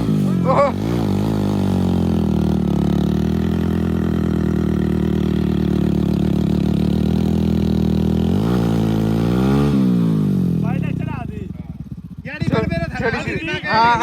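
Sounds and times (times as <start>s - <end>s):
diesel engine running hard: 0.0s - 12.0s.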